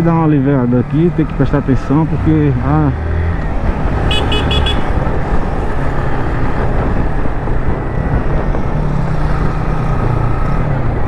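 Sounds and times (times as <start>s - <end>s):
road noise: 0.0s - 11.0s
wind rushing over microphone: 1.1s - 11.0s.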